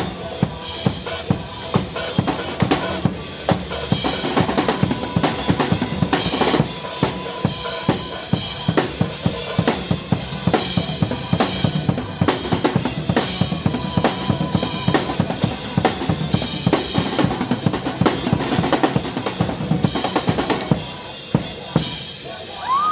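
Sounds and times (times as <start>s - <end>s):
backing music track: 0.0s - 22.9s
drum kit playing a steady beat: 0.0s - 22.9s.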